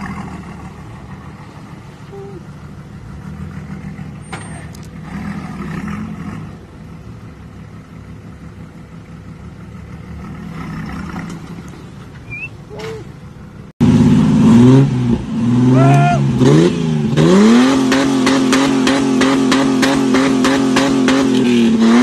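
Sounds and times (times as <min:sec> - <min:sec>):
vehicle engine droning: 0:00.0 - 0:22.0.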